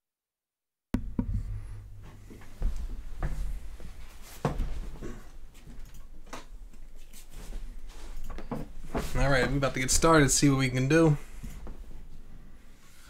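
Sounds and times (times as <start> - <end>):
low steady hum: 1.0 - 13.0.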